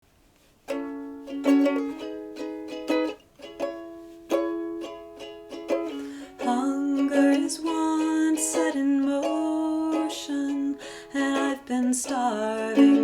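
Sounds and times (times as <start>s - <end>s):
ukulele strumming chords: 0.6s - 13.0s.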